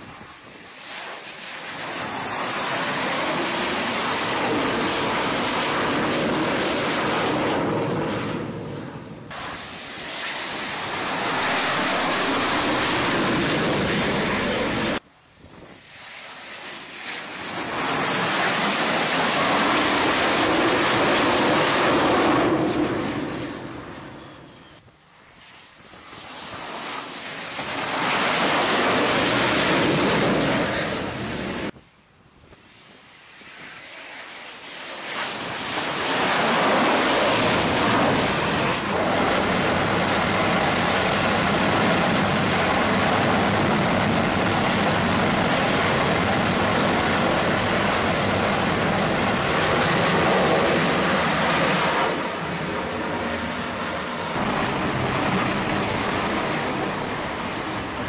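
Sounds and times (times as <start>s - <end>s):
jet passing: 0.0s - 31.8s, 32.6s - 58.0s
jet engine turbine whine and roar: 0.0s - 58.0s.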